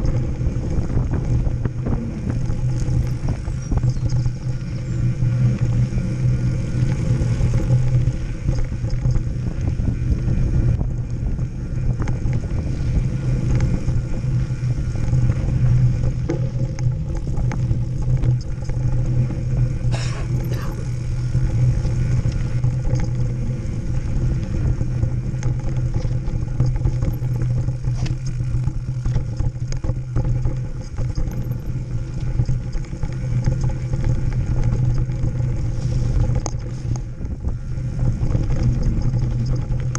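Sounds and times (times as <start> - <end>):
bike rattles and knocks: 0.0 - 39.9
bike tyres rumbling on dirt: 0.0 - 39.9
wind rushing over camera: 0.0 - 39.9.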